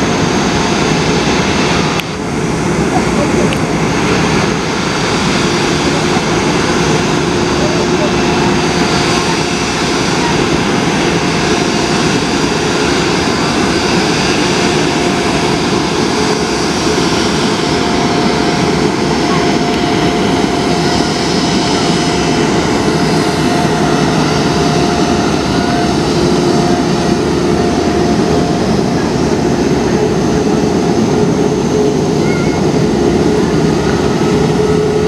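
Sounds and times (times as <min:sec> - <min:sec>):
faint engine whine: 0:00.0 - 0:35.0
jet engines rushing: 0:00.0 - 0:35.0.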